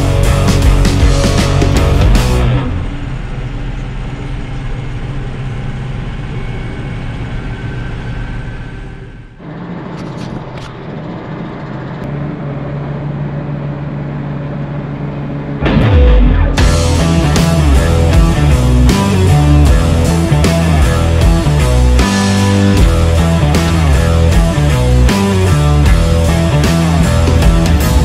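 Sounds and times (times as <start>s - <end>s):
engine idling: 0.0s - 28.0s
tractor engine running: 0.0s - 28.0s.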